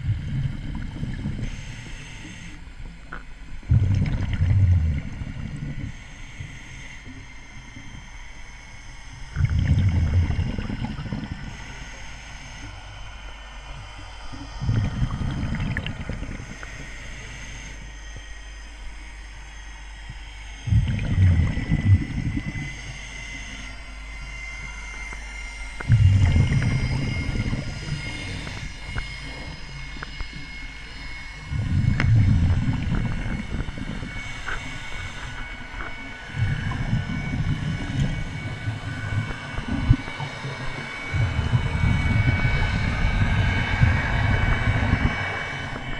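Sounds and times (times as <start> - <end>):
underwater exhaled bubbles: 0.0 - 8.0, 9.3 - 12.8, 14.2 - 17.8, 20.6 - 23.8, 25.0 - 45.9
faint steady whine: 0.0 - 45.9.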